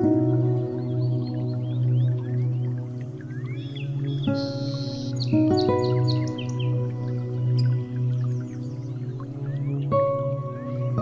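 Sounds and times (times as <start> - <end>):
birds chirping: 0.0 - 11.0
slow ambient music: 0.0 - 11.0.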